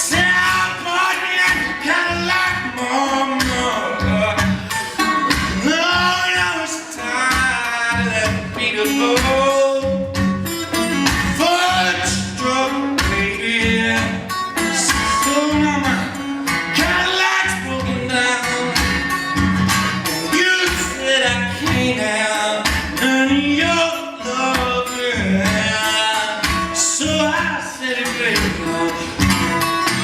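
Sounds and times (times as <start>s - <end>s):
man singing: 0.0s - 30.0s
plucked guitar: 0.0s - 30.0s.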